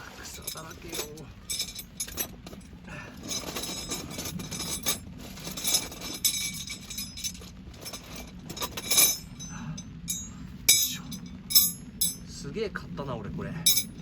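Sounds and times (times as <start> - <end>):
metal tent pegs clinking: 0.0 - 12.4, 13.6 - 14.0.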